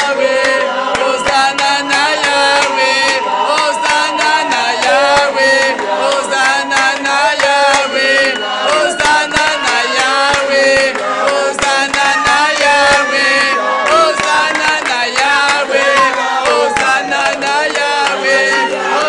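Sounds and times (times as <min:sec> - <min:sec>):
crowd singing a hymn: 0:00.0 - 0:19.0
hand-clapping: 0:00.0 - 0:19.0.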